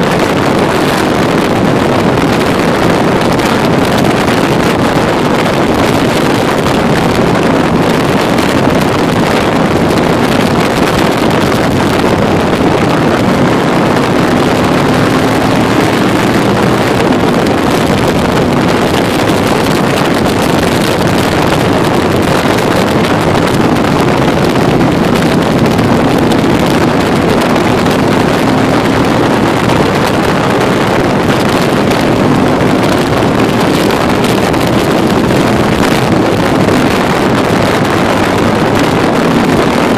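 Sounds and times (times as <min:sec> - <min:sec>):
motorcycle engine running: 0:00.0 - 0:39.9
wind buffeting on microphone: 0:00.0 - 0:39.9.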